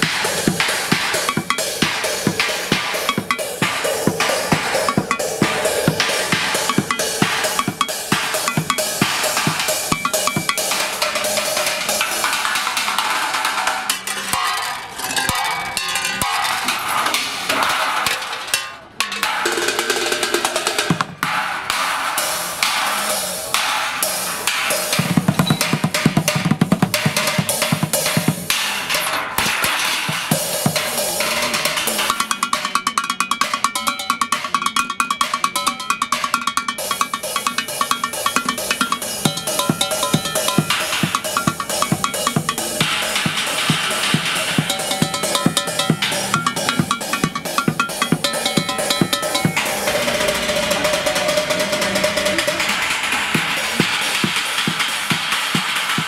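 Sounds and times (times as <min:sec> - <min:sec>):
metal pots and pans drummed fast: 0:00.0 - 0:56.0.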